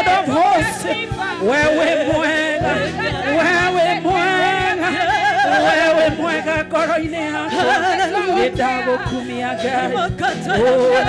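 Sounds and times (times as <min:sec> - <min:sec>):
bass line: 0:00.0 - 0:11.0
drum kit: 0:00.0 - 0:11.0
women singing gospel: 0:00.0 - 0:11.0.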